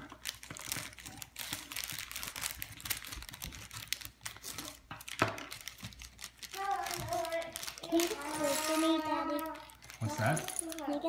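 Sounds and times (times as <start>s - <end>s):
plastic crinkling: 0.0s - 11.0s.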